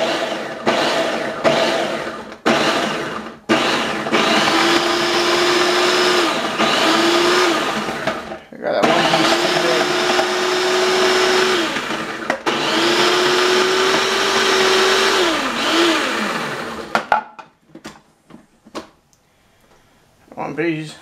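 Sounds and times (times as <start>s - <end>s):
food processor motor whirring: 0.0s - 17.1s.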